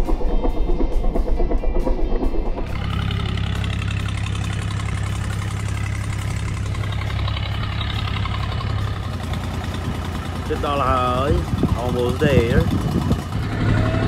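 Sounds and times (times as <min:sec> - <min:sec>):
boat engine running: 0:02.1 - 0:14.0.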